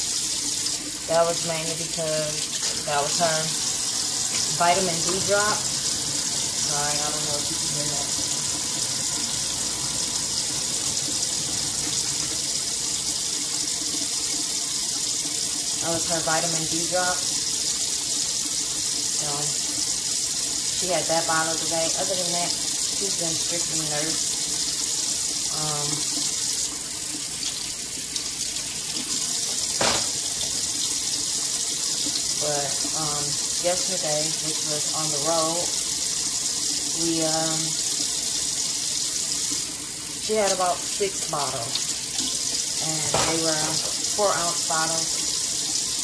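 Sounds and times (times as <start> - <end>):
faucet running into a sink: 0.0 - 46.0.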